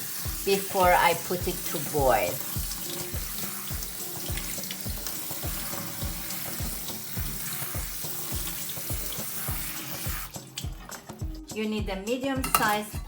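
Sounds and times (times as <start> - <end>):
kitchen tap running: 0.0 - 11.3
background music with steady beat: 0.0 - 13.0.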